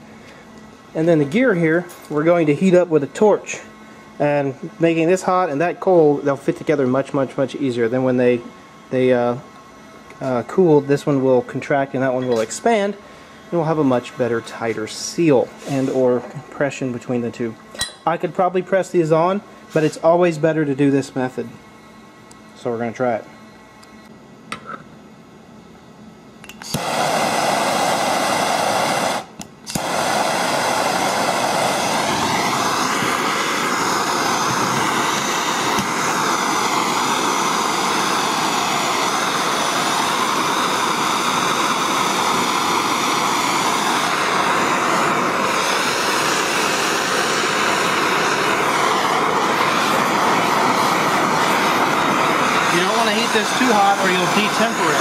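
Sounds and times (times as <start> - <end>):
gas torch flame hissing: 0.0 - 21.7, 26.4 - 55.0.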